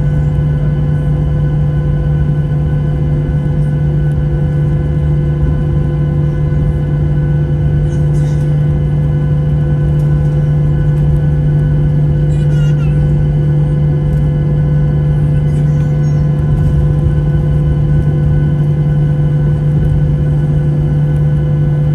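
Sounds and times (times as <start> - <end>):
airplane cabin drone: 0.0 - 21.9.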